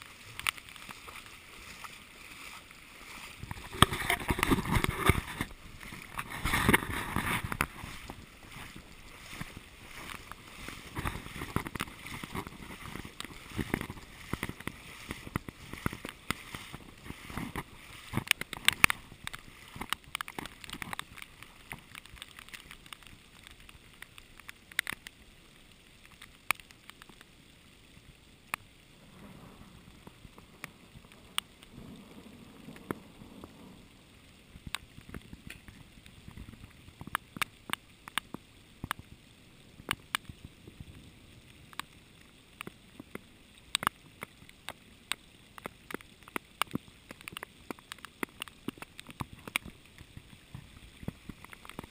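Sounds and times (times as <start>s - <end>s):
heavy rain on flooded pavement: 0.0s - 51.9s
raindrops ticking near microphone: 0.0s - 51.9s.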